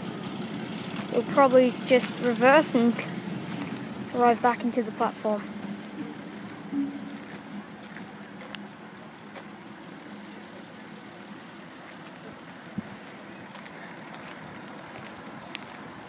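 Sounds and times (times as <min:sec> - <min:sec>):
distant locomotive idling: 0:00.0 - 0:16.0.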